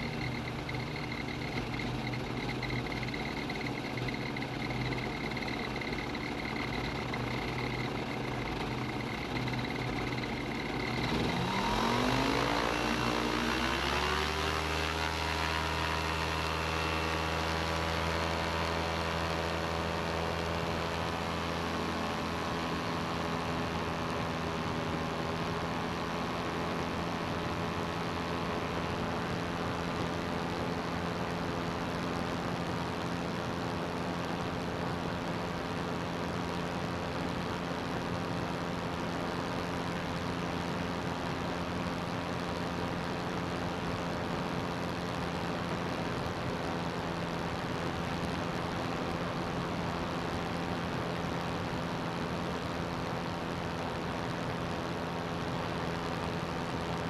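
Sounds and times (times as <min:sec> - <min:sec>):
ultralight aircraft engine and propeller: 0:00.0 - 0:57.0.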